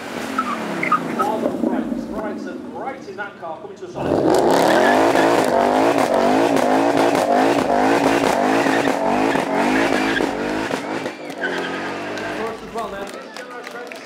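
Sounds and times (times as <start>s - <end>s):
sports car engine running hard: 0.0s - 2.8s, 3.9s - 13.0s.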